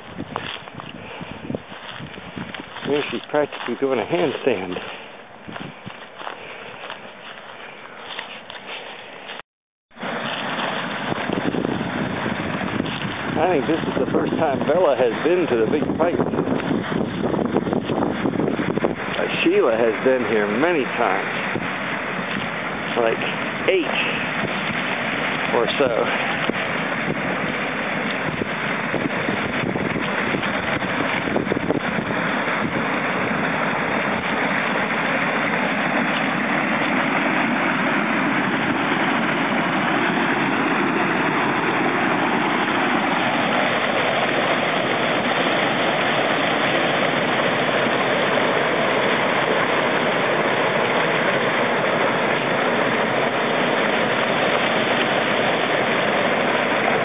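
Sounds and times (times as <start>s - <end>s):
water rushing from outlet pipes: 0.0s - 9.4s, 10.0s - 57.0s.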